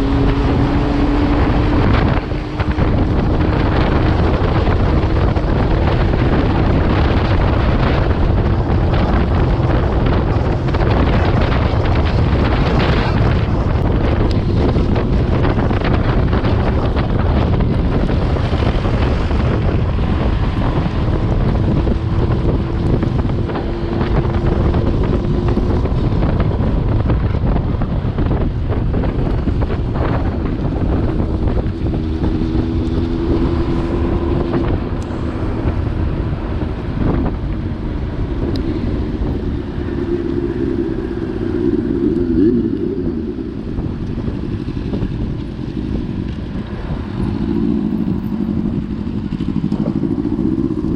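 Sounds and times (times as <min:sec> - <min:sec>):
vehicle engine running: 0:00.0 - 0:50.9
wind noise on microphone: 0:00.0 - 0:50.9.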